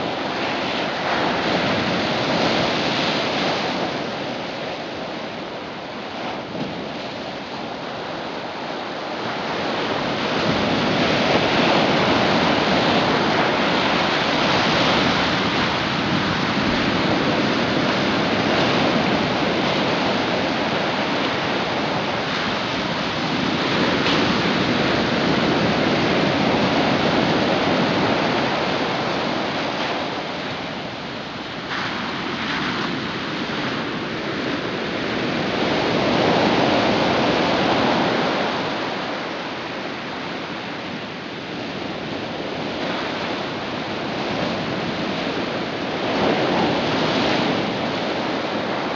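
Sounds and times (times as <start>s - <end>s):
ocean surf rushing: 0.0s - 48.9s.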